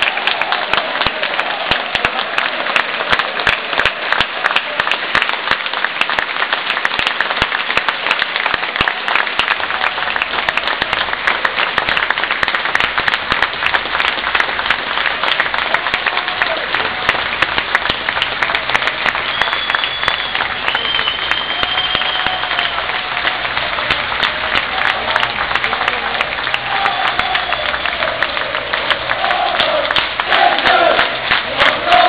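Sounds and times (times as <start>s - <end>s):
crowd clapping: 0.0s - 32.0s.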